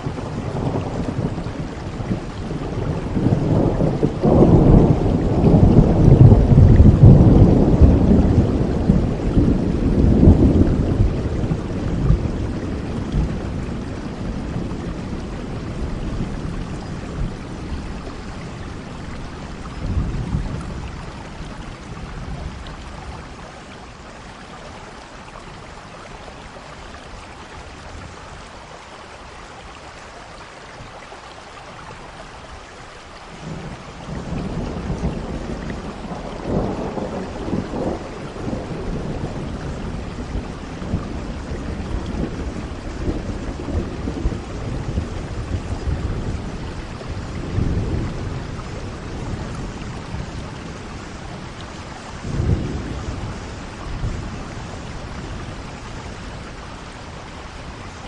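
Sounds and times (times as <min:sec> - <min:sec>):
rolling thunder: 0:00.0 - 0:23.6, 0:33.3 - 0:58.0
steady rain: 0:00.0 - 0:58.0.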